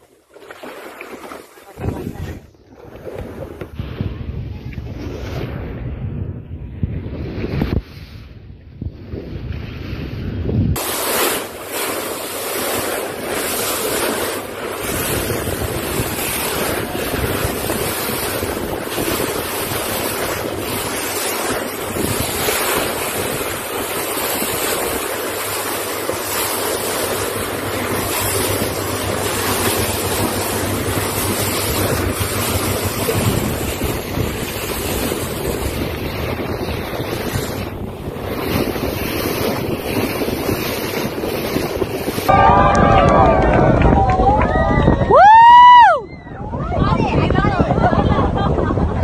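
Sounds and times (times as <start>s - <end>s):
wind buffeting microphone: 0.6s - 49.0s.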